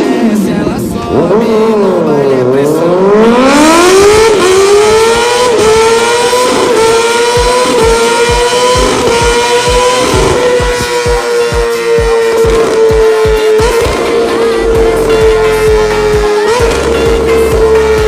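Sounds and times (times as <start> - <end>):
bass drum beat of music: 0.0 - 18.0
motorcycle engine at high revs: 0.0 - 18.0.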